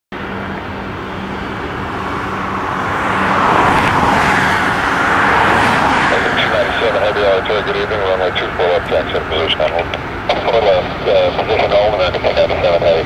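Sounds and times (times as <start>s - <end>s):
jet engine rush: 0.1s - 13.0s.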